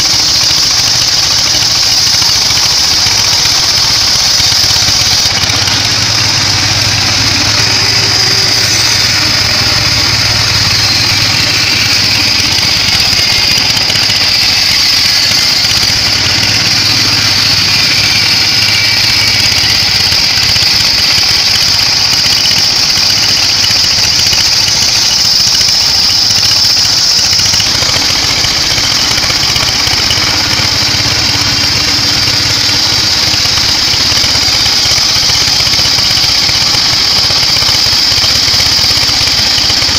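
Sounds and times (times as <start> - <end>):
bandsaw sawing wood: 0.0 - 39.9.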